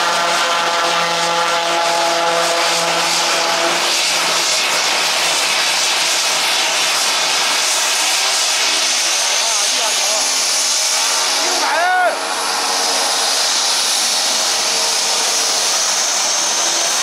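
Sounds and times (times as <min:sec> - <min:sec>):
turboprop airplane engine drone: 0:00.0 - 0:17.0.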